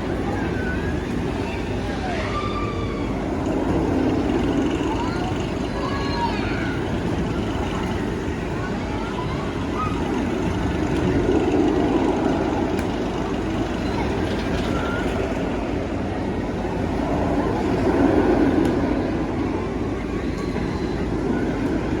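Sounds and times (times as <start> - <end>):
amusement ride rushing noise: 0.0 - 22.0
faint voices: 0.0 - 22.0.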